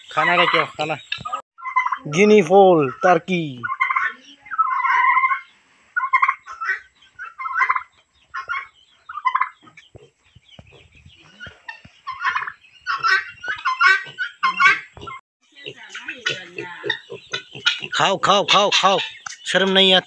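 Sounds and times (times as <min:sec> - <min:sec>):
turkeys gobbling: 0:00.0 - 0:20.0.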